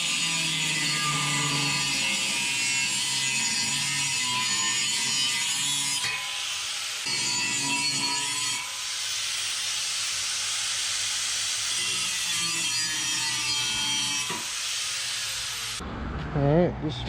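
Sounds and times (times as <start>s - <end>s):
power tool cutting steel pipe: 0.0s - 15.8s.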